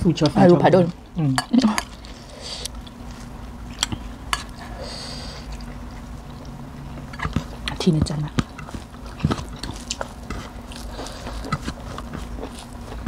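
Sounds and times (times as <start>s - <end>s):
low steady hum: 0.0s - 13.0s
soft eating noises: 0.0s - 13.0s.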